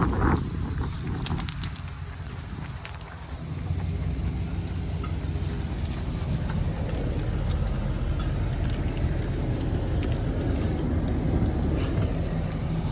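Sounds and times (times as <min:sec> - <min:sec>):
pickup engine rumbling: 0:00.0 - 0:12.9.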